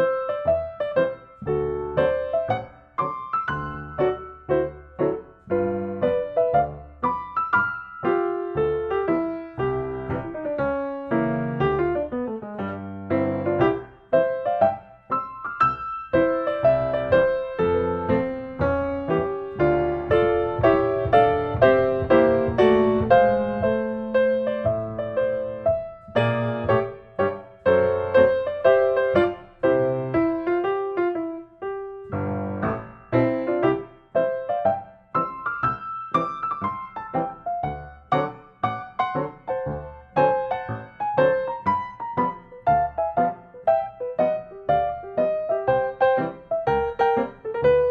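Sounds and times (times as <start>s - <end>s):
gentle piano music: 0.0s - 47.9s.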